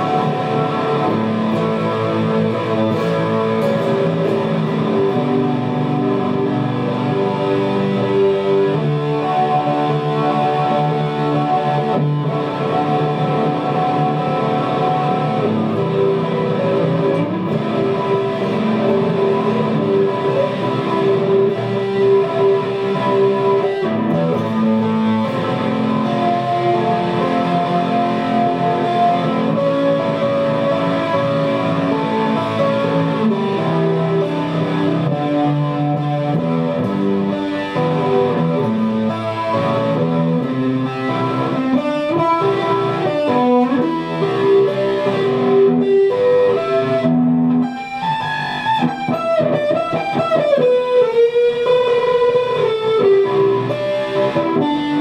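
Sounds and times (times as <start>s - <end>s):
electric guitar music: 0.0s - 55.0s.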